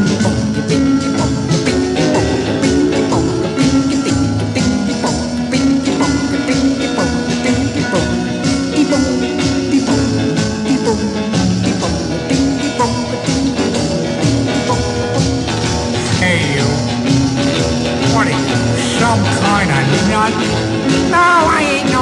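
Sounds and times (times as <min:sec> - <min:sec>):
rock and roll song with drums: 0:00.0 - 0:22.0.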